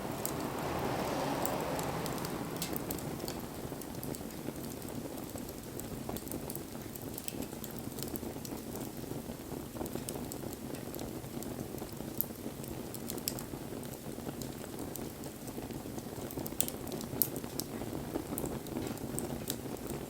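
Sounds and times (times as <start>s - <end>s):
bonfire flame rushing: 0.0s - 20.0s
burning wood crackling and popping: 0.0s - 20.0s.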